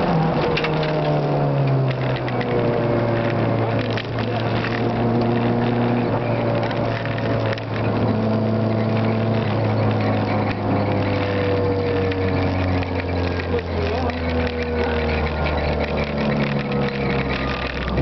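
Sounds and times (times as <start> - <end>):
rally car engine running hard: 0.0 - 18.0
road and tyre noise: 0.0 - 18.0.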